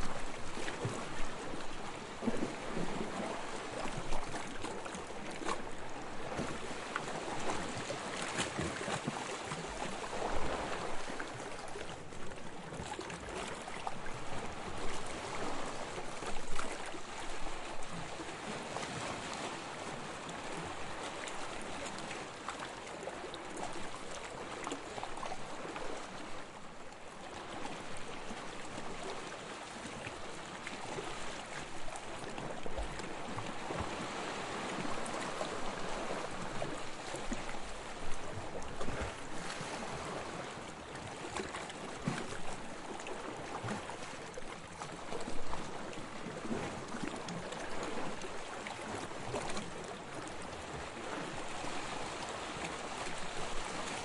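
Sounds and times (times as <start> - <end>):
sea water lapping and sloshing: 0.0 - 54.0.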